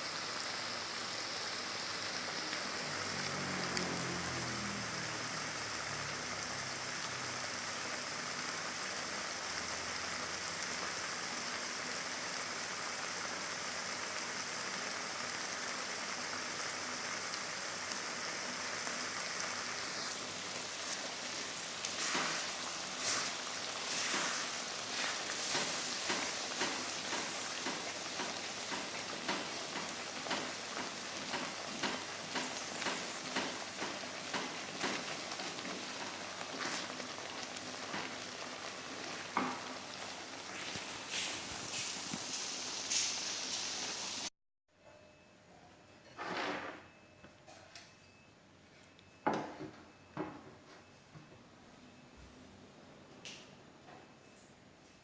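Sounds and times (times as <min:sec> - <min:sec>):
paste sizzling in oil: 0:00.0 - 0:44.3.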